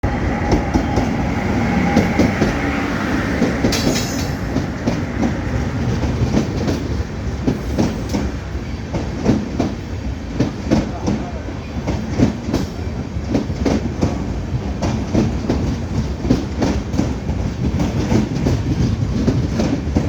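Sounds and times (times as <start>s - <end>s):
train wheels clacking on rails: 0.0s - 20.0s.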